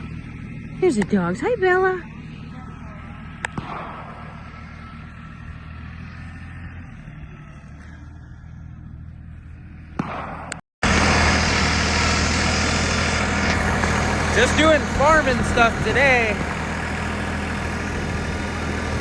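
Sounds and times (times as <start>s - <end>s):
tractor engine running: 0.0s - 9.9s, 10.8s - 19.0s.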